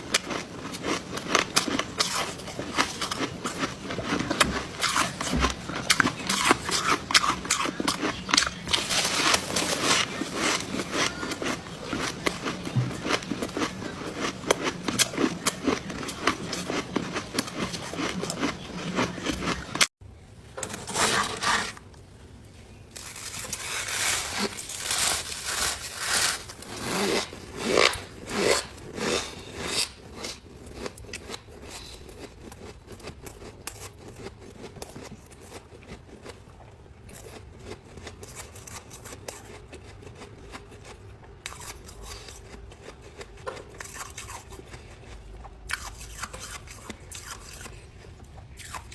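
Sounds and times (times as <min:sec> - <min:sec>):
ice being chewed and crunched: 0:00.0 - 0:19.9, 0:23.0 - 0:48.9.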